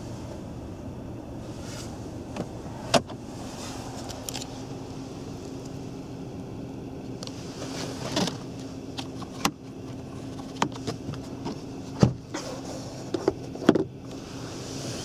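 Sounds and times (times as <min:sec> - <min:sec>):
steady cabin hum: 0:00.0 - 0:15.0.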